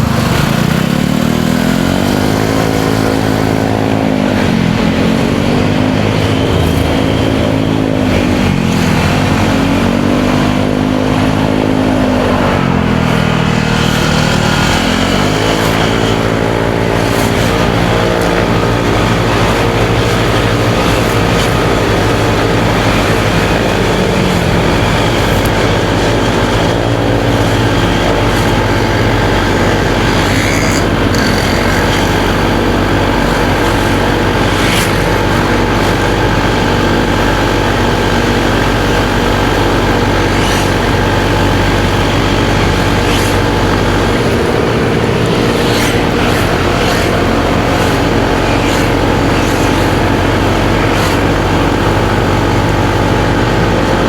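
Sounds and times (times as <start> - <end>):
motorcycle engine running: 0.0 - 54.0
road and traffic noise: 0.0 - 54.0.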